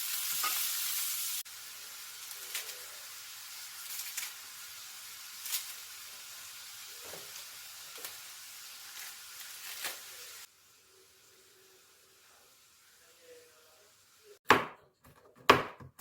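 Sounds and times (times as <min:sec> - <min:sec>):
food sizzling in a frying pan: 0:00.0 - 0:14.4.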